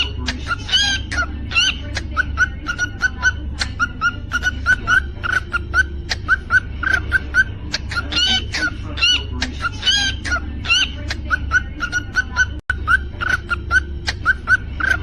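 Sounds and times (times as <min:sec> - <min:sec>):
cockatiel chirping: 0:00.0 - 0:15.0
low steady hum: 0:00.0 - 0:15.0.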